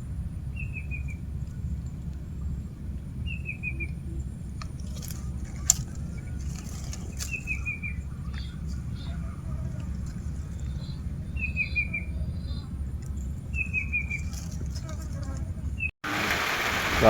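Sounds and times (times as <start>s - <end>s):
bird chirping: 0.0s - 14.4s
steady low rumble: 0.0s - 14.7s.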